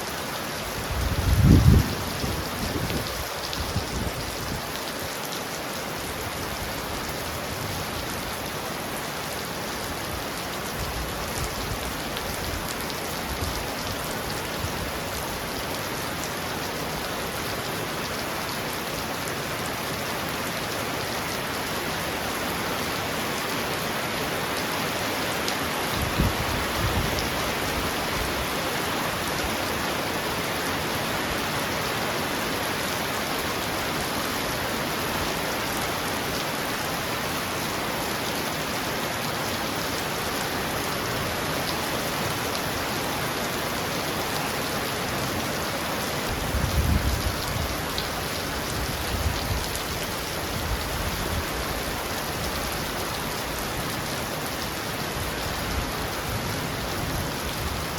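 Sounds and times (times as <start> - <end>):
heavy rain on a roof: 0.0 - 57.9.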